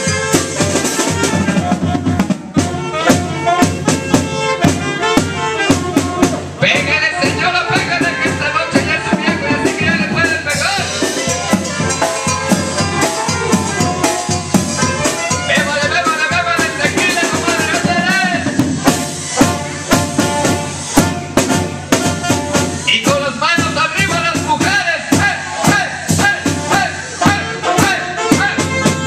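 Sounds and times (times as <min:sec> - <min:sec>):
sousaphone: 0:00.0 - 0:23.1, 0:24.0 - 0:29.0
brass band playing: 0:00.0 - 0:29.0
drum kit: 0:00.0 - 0:29.0.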